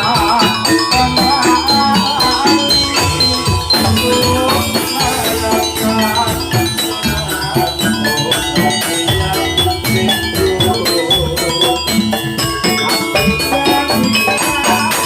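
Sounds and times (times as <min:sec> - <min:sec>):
steady drum beats: 0:00.0 - 0:15.0
struck metallophone notes: 0:00.0 - 0:15.0.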